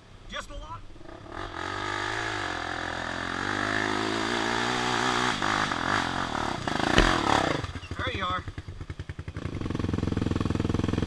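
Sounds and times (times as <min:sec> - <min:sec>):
motorcycle engine revving: 0:01.0 - 0:11.0.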